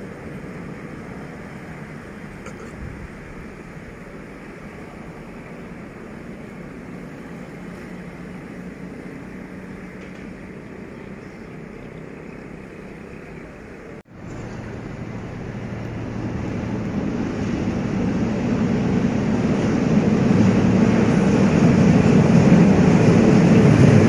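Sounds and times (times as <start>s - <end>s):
locomotive engine running: 0.0s - 24.0s.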